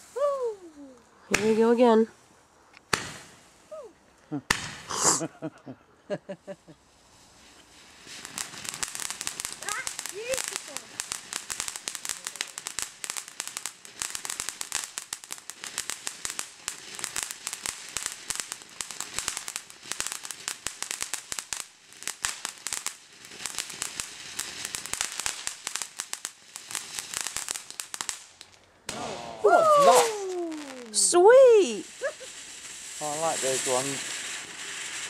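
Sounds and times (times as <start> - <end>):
fireworks crackling: 0.0 - 35.0.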